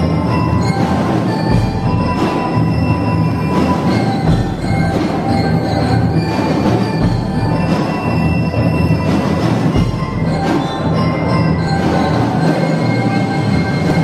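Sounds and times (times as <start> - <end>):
marching percussion: 0.0 - 14.0.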